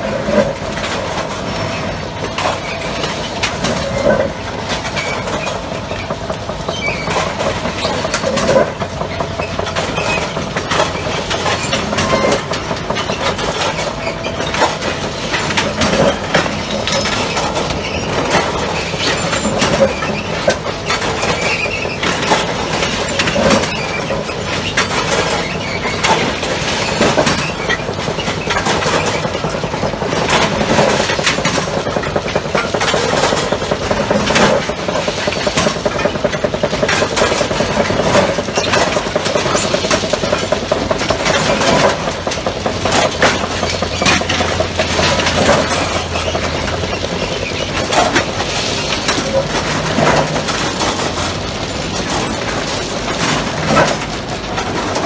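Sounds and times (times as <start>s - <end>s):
loud machinery running: 0.0s - 55.0s
metal clanks and knocks: 0.0s - 55.0s.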